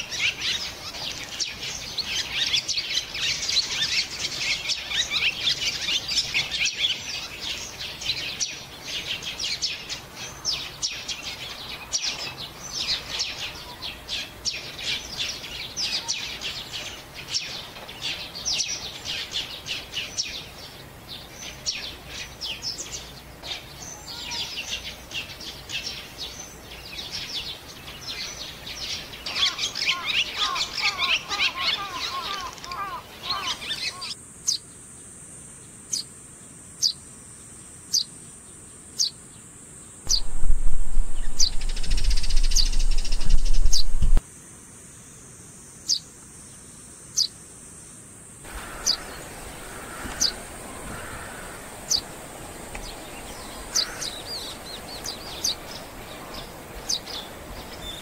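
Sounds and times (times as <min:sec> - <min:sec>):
birds chirping: 0:00.0 - 0:34.8, 0:39.0 - 0:44.2, 0:48.5 - 0:58.0.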